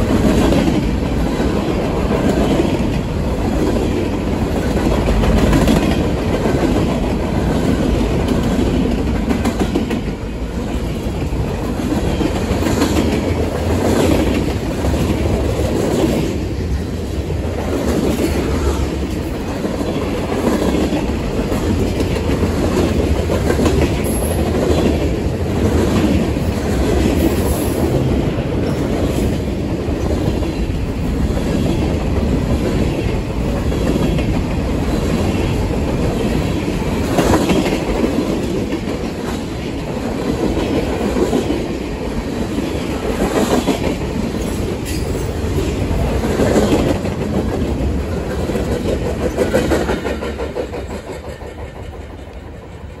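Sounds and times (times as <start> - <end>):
freight train wheels on rails: 0.0 - 53.0.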